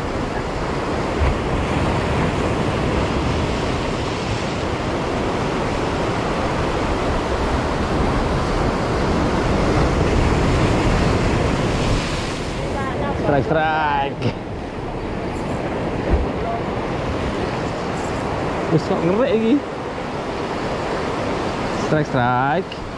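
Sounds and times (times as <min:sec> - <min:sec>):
sea surf washing against concrete: 0:00.0 - 0:22.9.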